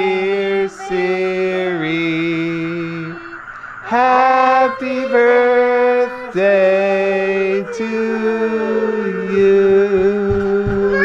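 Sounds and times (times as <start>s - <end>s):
people singing long held notes: 0.0s - 11.0s.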